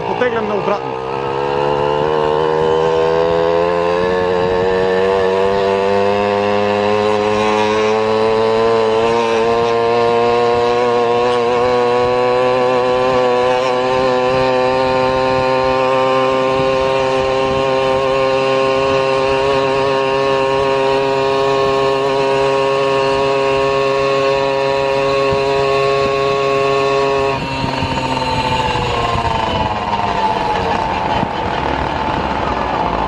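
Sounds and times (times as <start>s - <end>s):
vehicle engine accelerating: 0.0s - 33.0s.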